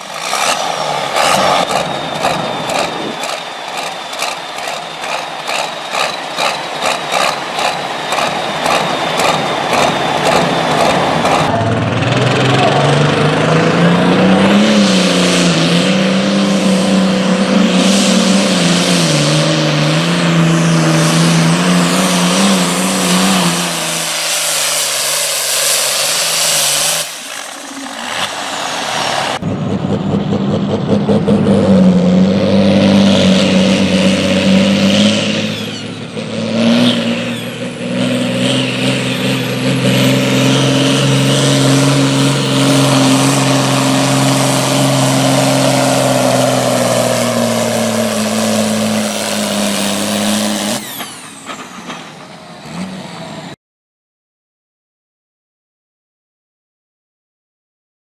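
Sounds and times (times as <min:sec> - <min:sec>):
diesel tractor engines under load: 0:00.0 - 0:53.6.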